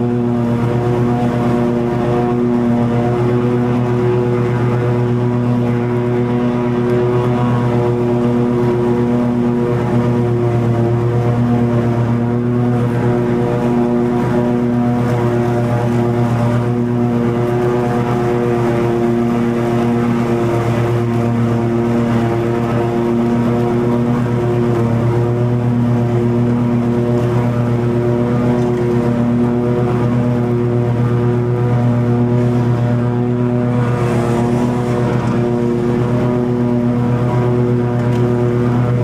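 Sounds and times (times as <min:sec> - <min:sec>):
mower deck cutting grass: 0:00.0 - 0:39.0
riding mower engine drone: 0:00.0 - 0:39.0.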